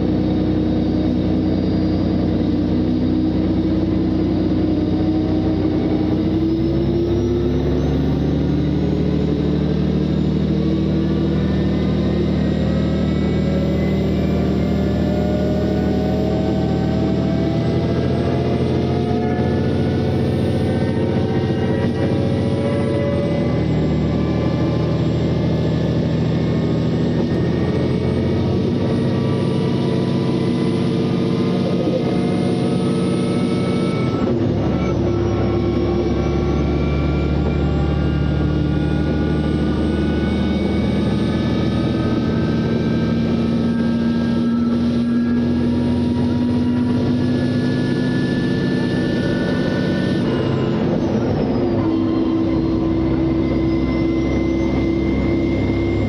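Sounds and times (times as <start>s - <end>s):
diesel railcar engine accelerating: 0.0s - 56.0s.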